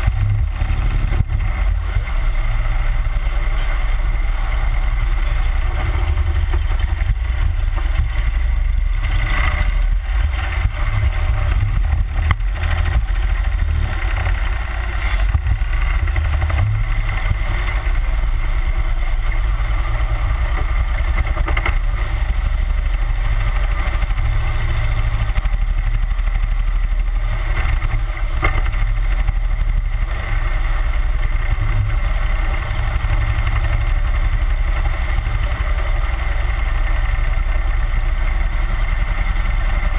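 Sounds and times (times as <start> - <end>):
boat motor low rumble: 0.0 - 39.9.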